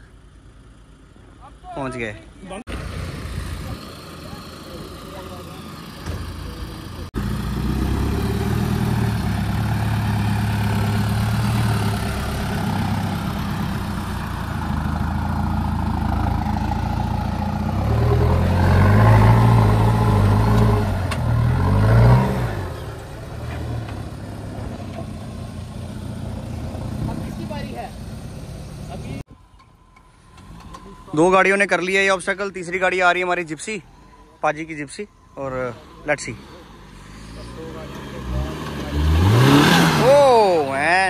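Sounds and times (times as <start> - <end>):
off-road vehicle engine under load: 0.0 - 41.0.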